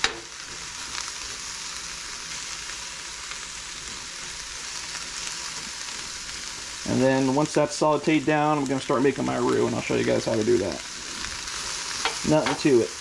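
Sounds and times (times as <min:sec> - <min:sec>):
mushrooms and onions sizzling: 0:00.0 - 0:13.0.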